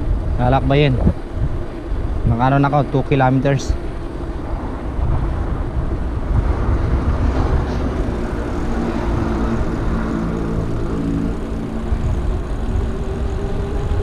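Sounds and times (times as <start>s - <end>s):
bike tyres rolling on asphalt: 0.0s - 14.0s
wind on camera microphone: 0.0s - 14.0s.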